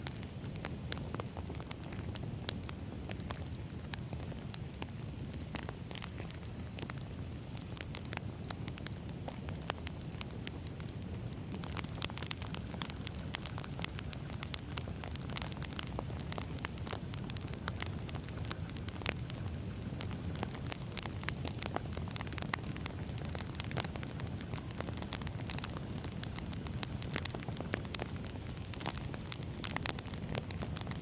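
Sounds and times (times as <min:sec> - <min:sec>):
burning logs crackling and popping: 0:00.0 - 0:31.0
wood fire rumbling: 0:00.0 - 0:31.0.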